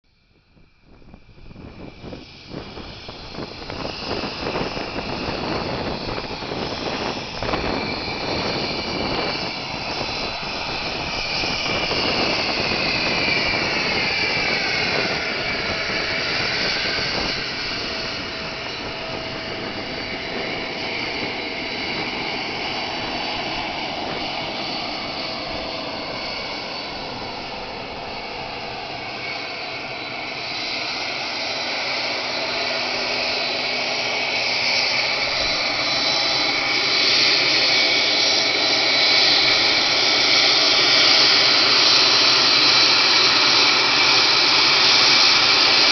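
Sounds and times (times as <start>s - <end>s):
jet engines whining while taxiing: 0.1s - 45.9s.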